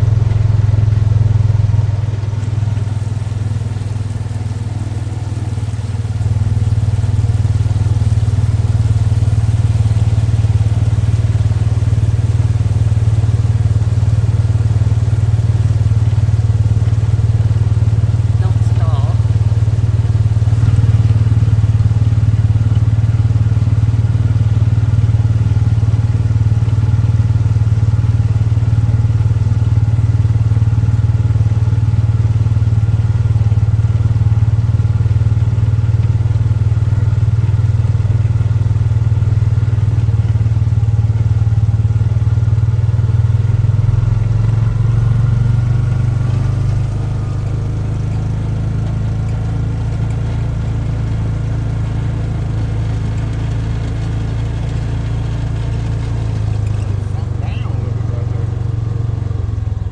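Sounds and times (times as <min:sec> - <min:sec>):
engine running with low hum: 0:00.0 - 0:59.9.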